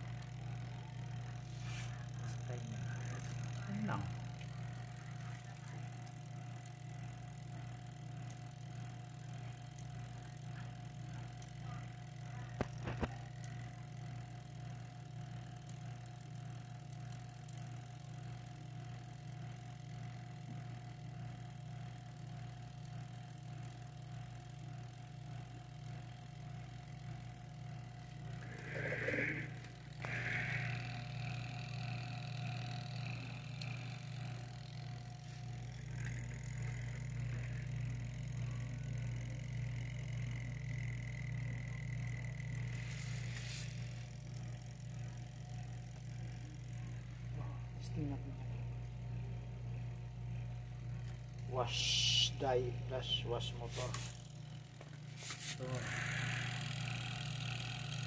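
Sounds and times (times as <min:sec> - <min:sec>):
electric motor humming: 0:00.0 - 0:58.0.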